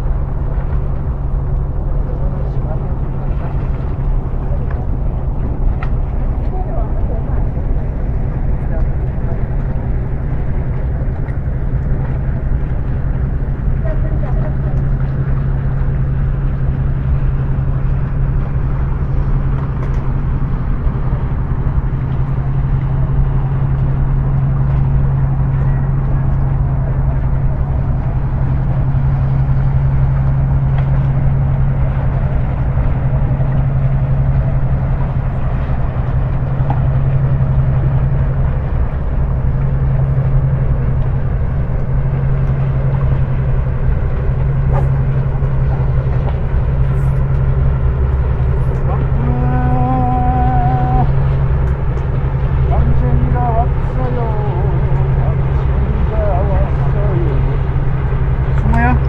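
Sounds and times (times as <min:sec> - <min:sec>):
low motor drone: 0:00.0 - 0:59.0.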